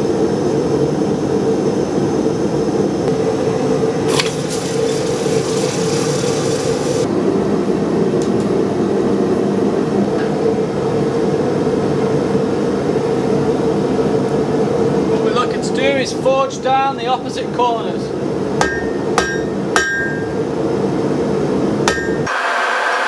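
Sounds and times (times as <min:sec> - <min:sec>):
gas forge burner roaring: 0:00.0 - 0:16.6, 0:17.5 - 0:23.0.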